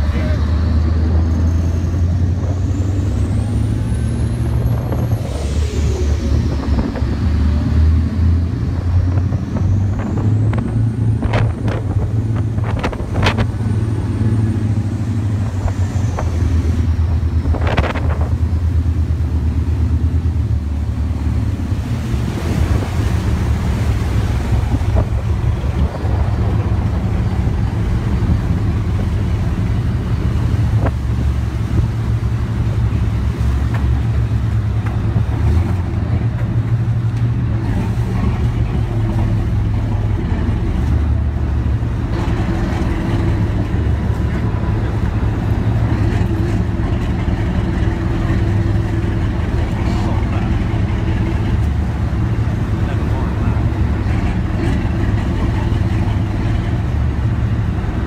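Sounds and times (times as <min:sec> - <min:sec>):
boat engines droning: 0:00.0 - 0:58.0
rushing water: 0:00.0 - 0:58.0
wind on microphone: 0:01.1 - 0:19.1, 0:19.9 - 0:58.0.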